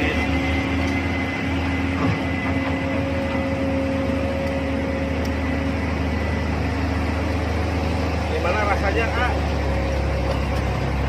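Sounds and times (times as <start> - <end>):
faint high whine: 0.0 - 11.0
machinery engine hum: 0.0 - 11.0.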